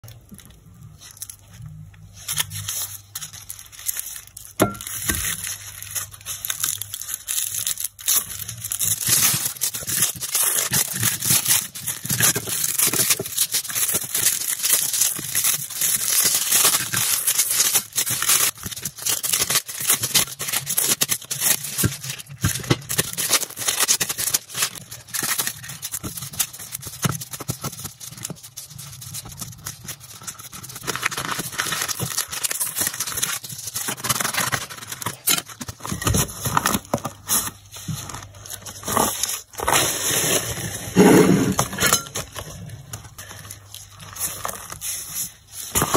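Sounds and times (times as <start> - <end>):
aluminium foil crinkling: 0.0 - 45.9
plastic bag crinkling: 0.0 - 45.9
paper packet tearing: 0.8 - 45.9.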